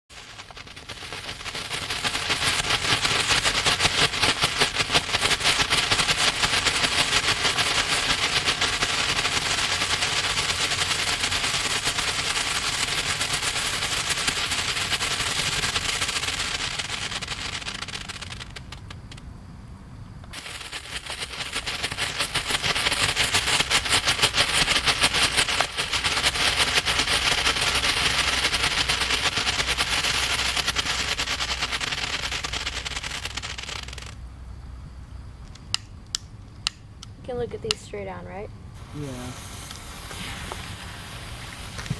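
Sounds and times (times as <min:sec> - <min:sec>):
fountain fireworks crackling: 0:00.0 - 0:19.2, 0:20.3 - 0:34.2, 0:37.2 - 0:41.9.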